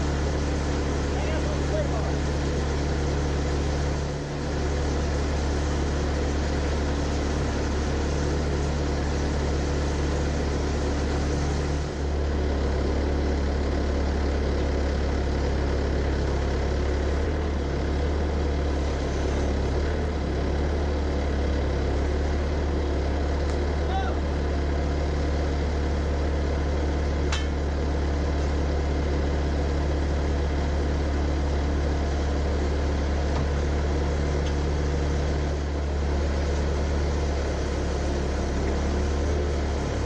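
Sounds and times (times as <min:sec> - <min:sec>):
engine droning: 0:00.0 - 0:40.0.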